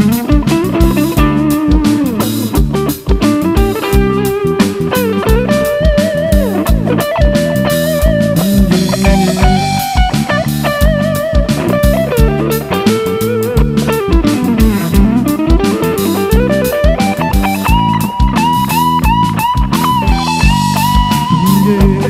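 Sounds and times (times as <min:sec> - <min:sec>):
bass guitar: 0:00.0 - 0:22.0
electric guitar lead with slides: 0:00.0 - 0:22.0
steady drum beat: 0:00.0 - 0:22.0.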